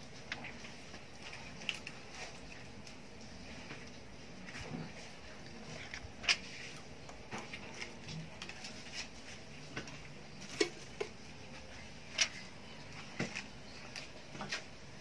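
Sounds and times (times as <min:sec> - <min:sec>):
clicks and crinkles of plastic sheets: 0:00.2 - 0:14.8.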